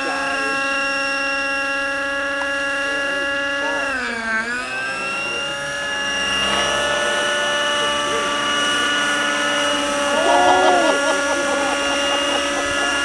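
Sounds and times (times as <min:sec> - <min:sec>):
rc helicopter engine whine: 0:00.0 - 0:13.0.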